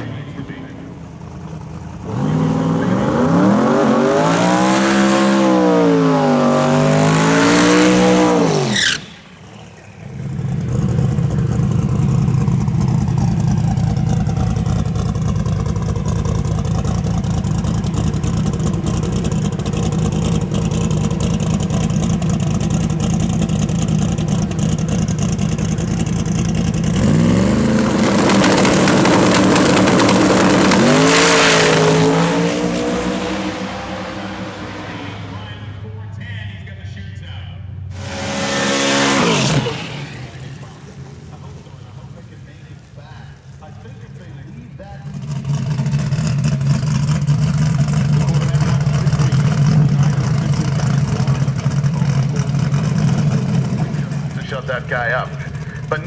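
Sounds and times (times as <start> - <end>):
race car engine revving: 0.0 - 36.8, 37.7 - 56.0
car engine running steadily: 0.0 - 56.0.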